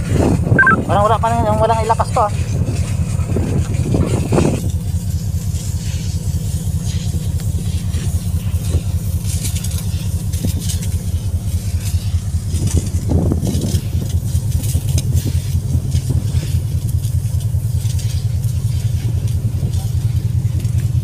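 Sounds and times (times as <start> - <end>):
fire hose spraying water: 0.0 - 21.0
ship engine low rumble: 0.0 - 21.0.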